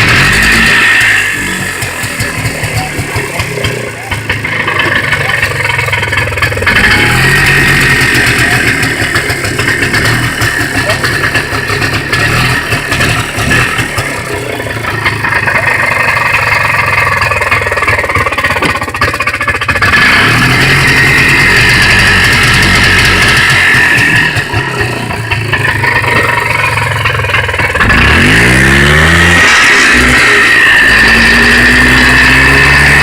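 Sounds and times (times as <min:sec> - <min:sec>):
two-stroke engine running: 0:00.0 - 0:33.0.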